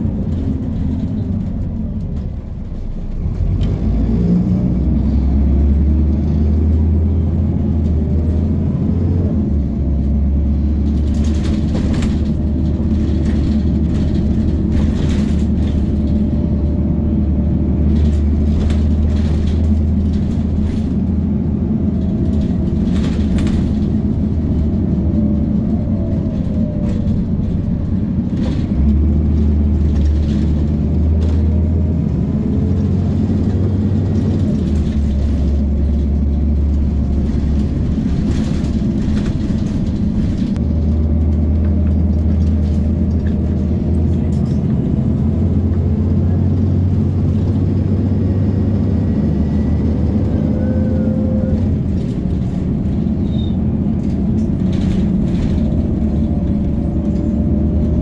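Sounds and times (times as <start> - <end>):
bus body rattles and knocks: 0.0 - 58.0
bus engine drone: 0.0 - 58.0.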